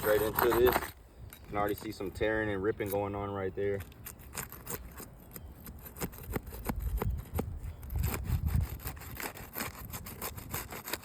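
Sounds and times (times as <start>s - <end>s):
shingle scraping and rubbing: 0.0s - 11.0s.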